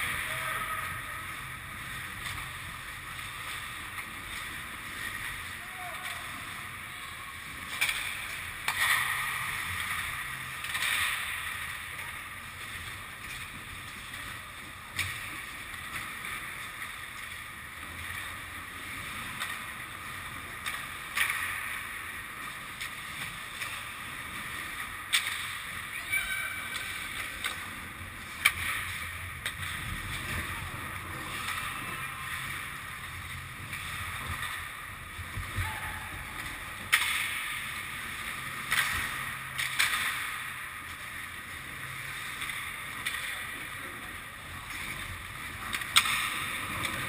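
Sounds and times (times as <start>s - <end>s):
hockey sticks clacking on puck: 0.0s - 18.4s, 19.2s - 47.0s
skate blades scraping on ice: 0.0s - 47.0s.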